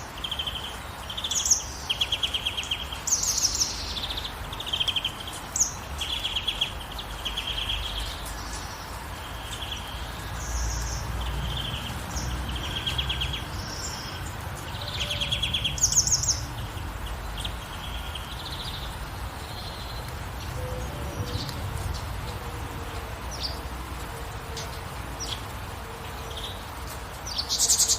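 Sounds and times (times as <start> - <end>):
songbirds singing trilled phrases: 0.0 - 22.4
gentle rain hissing: 0.0 - 27.9.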